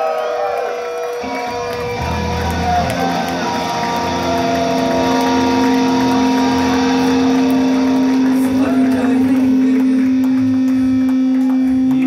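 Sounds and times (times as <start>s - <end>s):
electric guitar droning chord: 0.9s - 12.0s.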